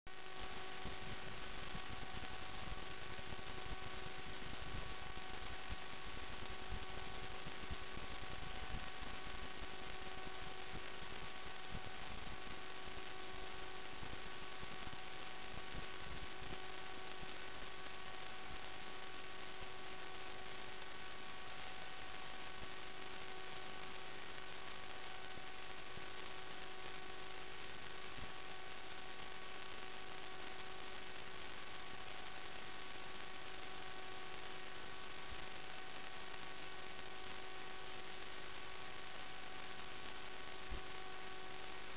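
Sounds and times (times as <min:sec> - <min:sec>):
static hiss: 0:00.1 - 0:41.9
steady electrical hum: 0:00.1 - 0:41.9.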